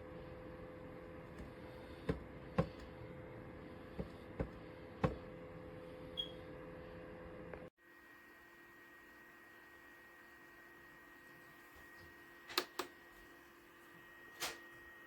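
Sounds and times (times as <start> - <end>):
dehumidifier humming: 0.0 - 15.0.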